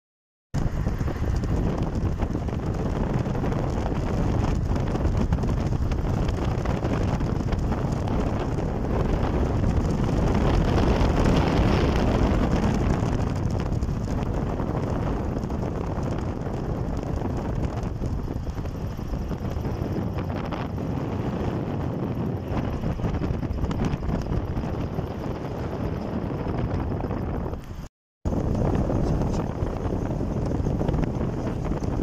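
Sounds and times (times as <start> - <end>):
road and engine rumble: 0.6 - 32.0
wind buffeting microphone: 0.6 - 32.0.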